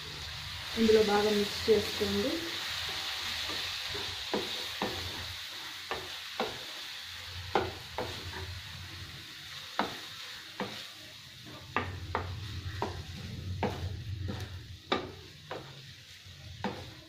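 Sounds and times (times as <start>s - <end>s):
soft frying sizzle: 0.0s - 17.0s
wooden spatula scraping a pan: 1.2s - 17.0s.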